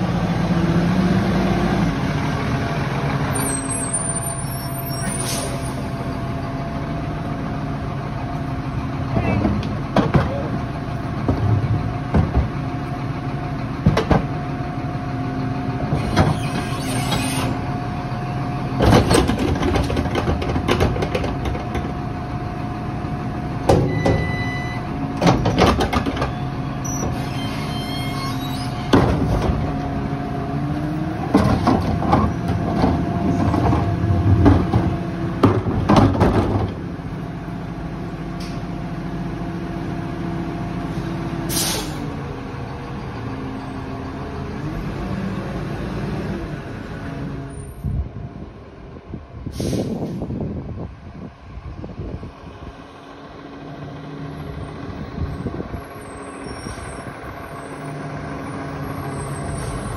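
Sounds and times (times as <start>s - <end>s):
garbage truck engine hum: 0.0s - 59.9s.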